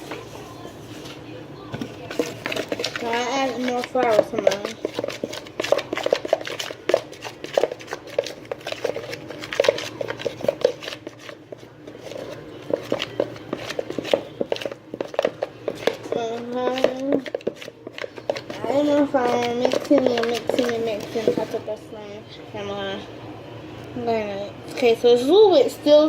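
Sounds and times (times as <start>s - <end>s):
spoon stirring sticky slime: 0.0s - 21.8s.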